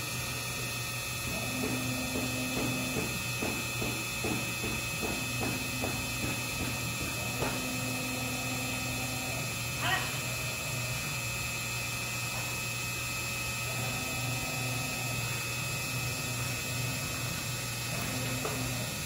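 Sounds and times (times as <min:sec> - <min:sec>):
machine mechanical hum: 0:00.0 - 0:19.0.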